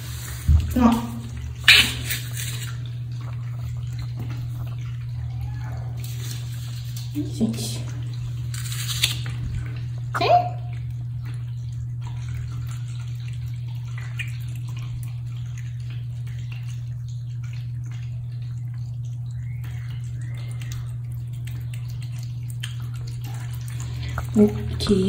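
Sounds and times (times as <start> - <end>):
cats eating wet food: 0.0 - 25.0
steady low hum: 0.0 - 25.0.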